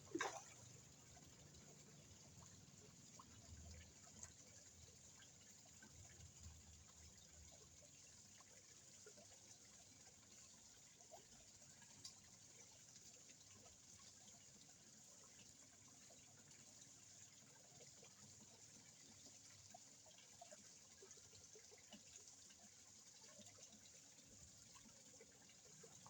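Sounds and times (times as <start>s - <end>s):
faint trickling water: 0.0s - 26.0s
small ticks and plops on water: 0.0s - 26.0s.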